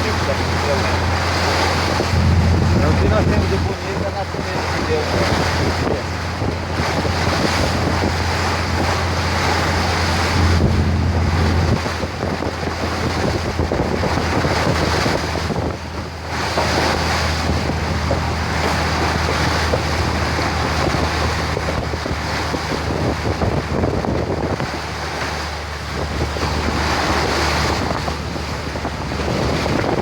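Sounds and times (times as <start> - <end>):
boat engine droning: 0.0 - 30.0
rushing water: 0.0 - 30.0
wind buffeting microphone: 0.0 - 30.0.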